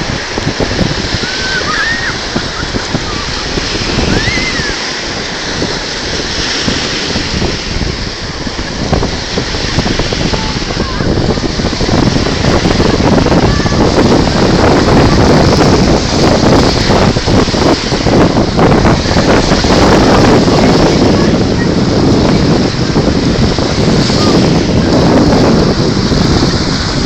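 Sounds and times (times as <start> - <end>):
sea waves washing onto shore: 0.0 - 27.0
wind buffeting microphone: 0.0 - 27.0.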